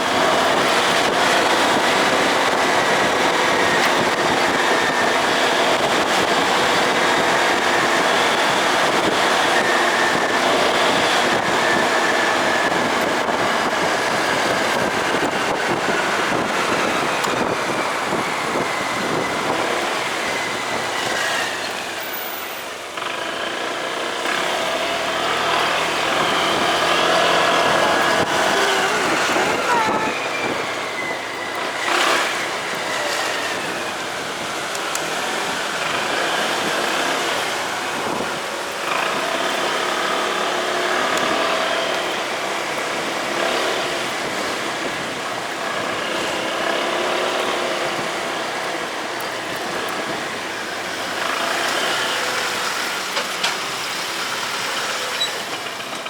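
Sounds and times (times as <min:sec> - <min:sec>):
motorcycle engine running: 0:00.0 - 0:54.7
wind and road noise: 0:00.0 - 0:56.0.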